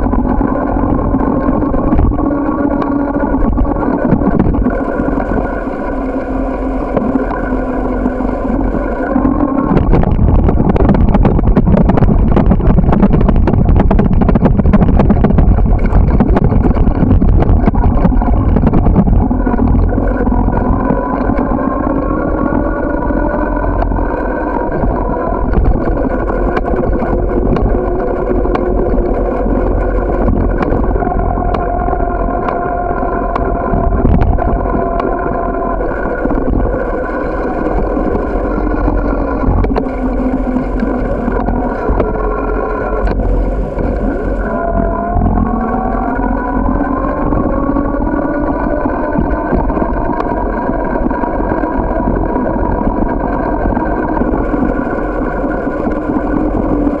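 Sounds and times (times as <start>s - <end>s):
bicycle whir: 0.0s - 57.0s
wind buffeting microphone: 0.0s - 57.0s.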